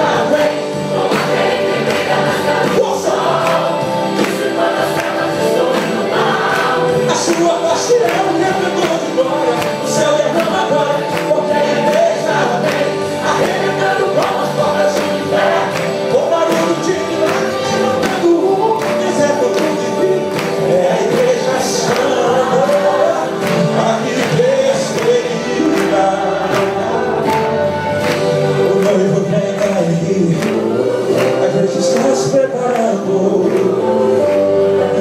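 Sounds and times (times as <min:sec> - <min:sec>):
man singing into microphone: 0:00.0 - 0:01.3, 0:02.6 - 0:35.0
band playing gospel music: 0:00.0 - 0:35.0
voices singing along: 0:00.0 - 0:35.0.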